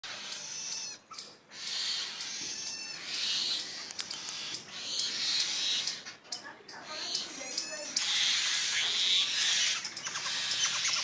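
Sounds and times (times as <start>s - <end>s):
bird distress calls: 0.0s - 11.0s.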